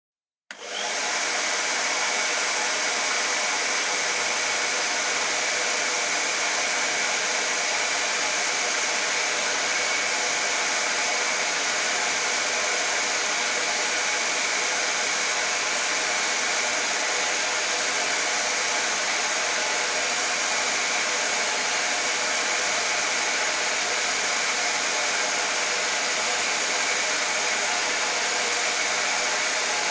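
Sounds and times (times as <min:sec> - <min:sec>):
hair dryer running: 0:00.5 - 0:29.9.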